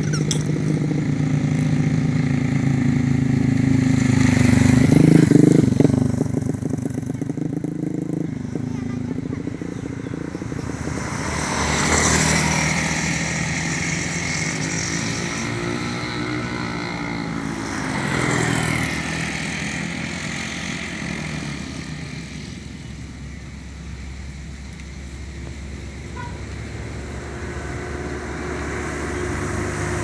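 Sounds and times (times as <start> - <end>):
motorcycle engines passing: 0.0 - 30.0.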